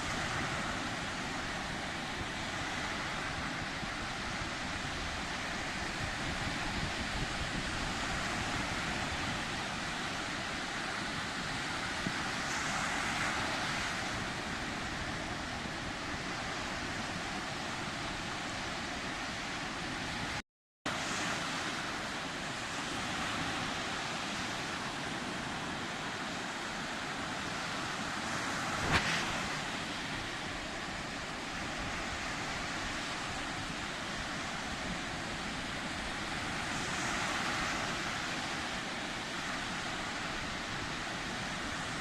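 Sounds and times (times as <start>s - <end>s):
sea waves rushing: 0.0s - 42.0s.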